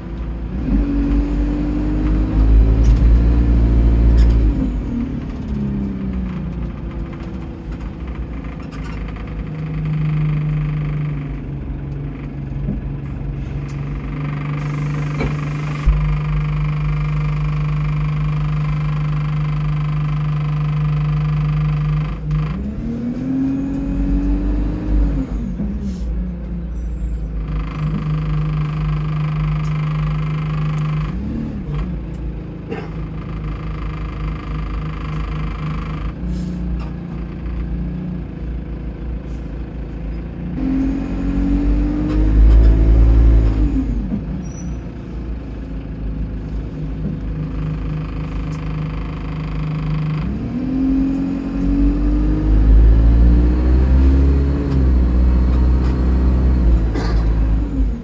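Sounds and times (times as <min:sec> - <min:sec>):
bus diesel engine revving: 0:00.0 - 0:58.0.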